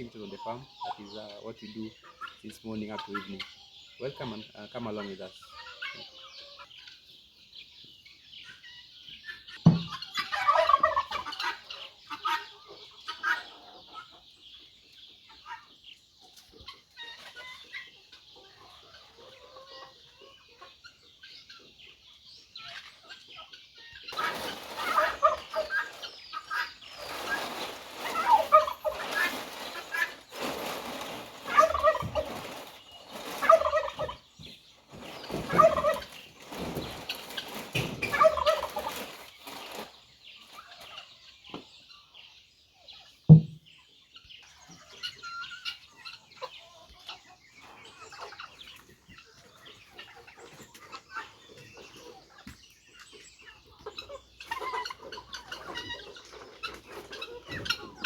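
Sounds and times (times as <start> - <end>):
turkeys gobbling: 0.0 - 7.0, 9.3 - 14.3, 16.3 - 41.2, 44.4 - 58.0
chicken clucks and calls: 0.0 - 58.0.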